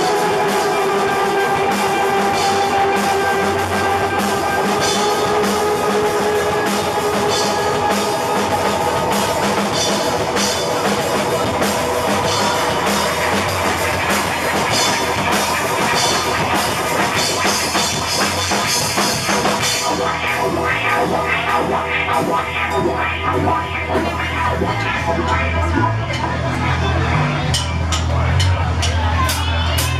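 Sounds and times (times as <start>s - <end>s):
cymbals: 0.0s - 29.9s
drum kit beat: 0.0s - 29.9s
electric guitar: 0.0s - 29.9s
rock band playing: 0.0s - 29.9s.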